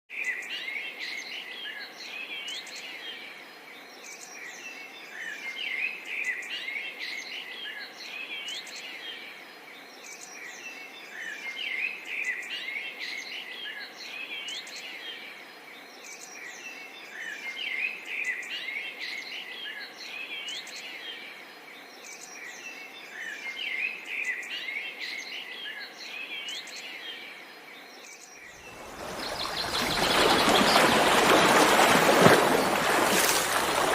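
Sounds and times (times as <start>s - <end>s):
small birds chirping chorus: 0.1s - 33.9s.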